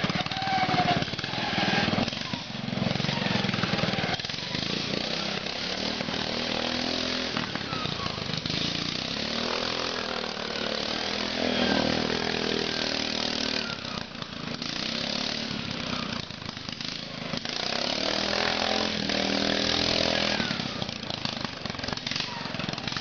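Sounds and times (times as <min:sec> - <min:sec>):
lawn mower engine revving: 0:00.0 - 0:23.0.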